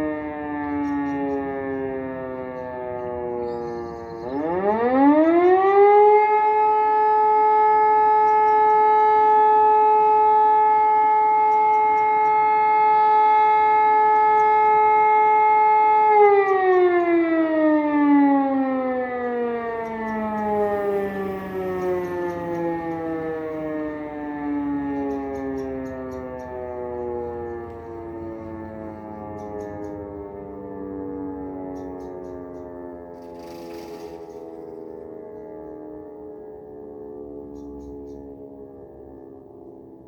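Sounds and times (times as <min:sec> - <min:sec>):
mechanical siren howling: 0:00.0 - 0:40.0.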